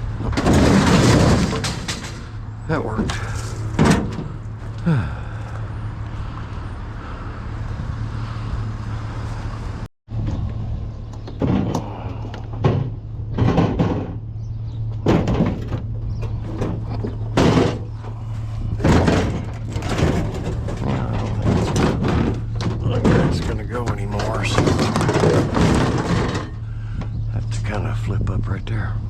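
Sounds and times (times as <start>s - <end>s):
clunks and rattles of items: 0.0s - 6.4s, 10.1s - 29.0s
vehicle engine idling: 2.3s - 13.4s, 14.0s - 29.0s.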